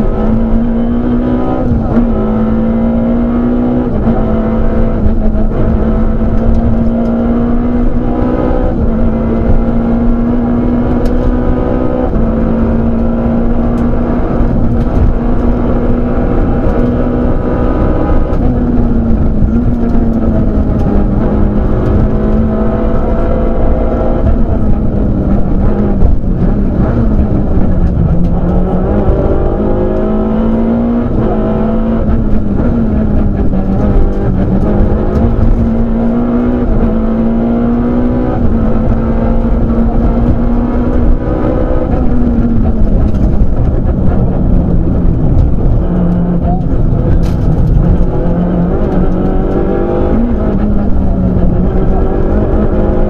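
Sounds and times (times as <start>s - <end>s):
car engine at high revs: 0.0s - 53.0s
road and tyre noise: 0.0s - 53.0s.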